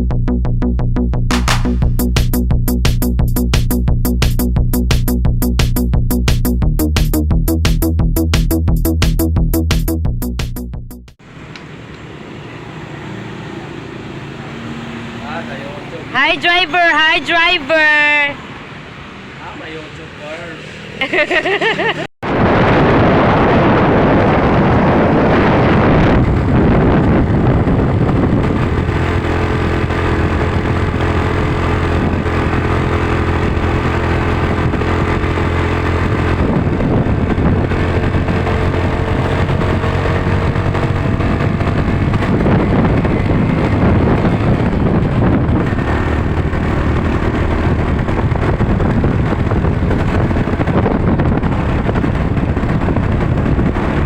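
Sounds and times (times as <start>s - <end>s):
vehicle engine hum: 0.0s - 22.1s, 23.2s - 54.0s
road and wind noise: 1.2s - 10.3s, 11.2s - 54.0s.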